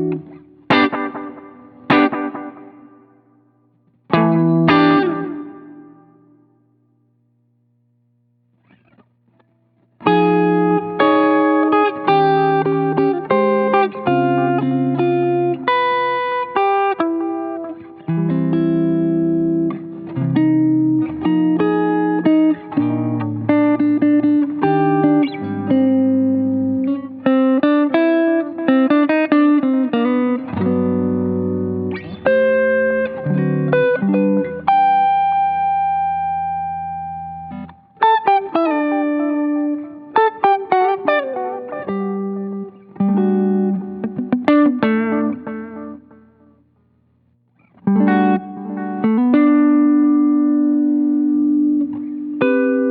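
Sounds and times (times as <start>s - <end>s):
clean electric guitar with delay: 0.0s - 6.9s, 8.5s - 52.9s.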